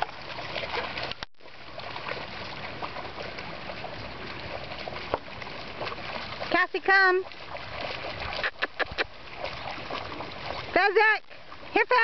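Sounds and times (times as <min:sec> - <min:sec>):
shallow river water running: 0:00.0 - 0:12.0
small water splashes: 0:00.0 - 0:12.0.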